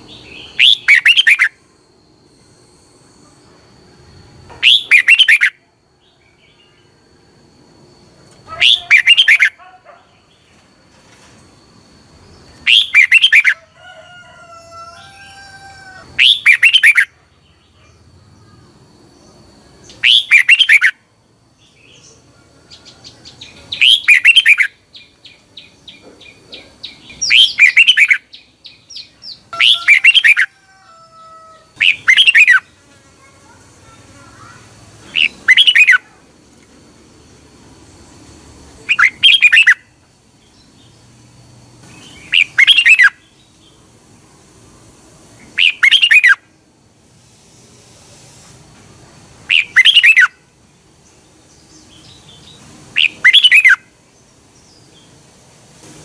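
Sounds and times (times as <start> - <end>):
bulbul singing song phrases: 0.0 - 10.6, 12.0 - 13.8, 15.4 - 36.6, 37.2 - 46.6, 49.4 - 55.3.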